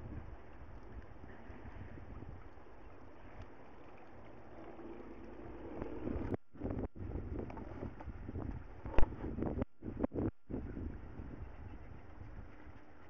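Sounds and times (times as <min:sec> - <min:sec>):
wind noise on microphone: 0:00.0 - 0:03.4, 0:05.3 - 0:13.0.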